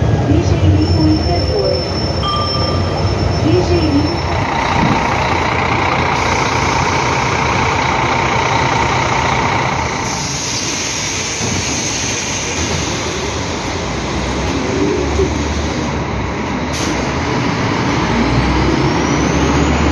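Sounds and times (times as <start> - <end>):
bus engine and road noise: 0.0 - 19.9.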